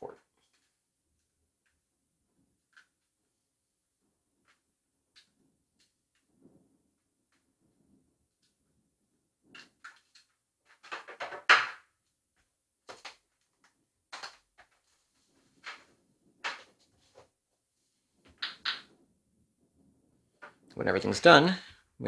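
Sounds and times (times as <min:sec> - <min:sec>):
speaker crackles and pops: 0:00.0 - 0:22.0.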